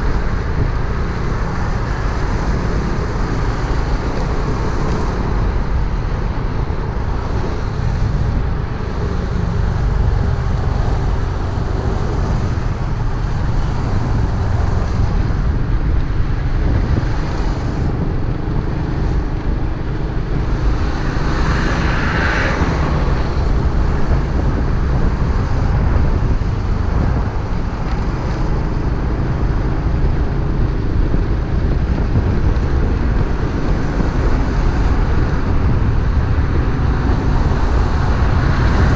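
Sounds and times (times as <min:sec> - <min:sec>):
road traffic: 0:00.0 - 0:38.9
wind noise on microphone: 0:00.0 - 0:38.9.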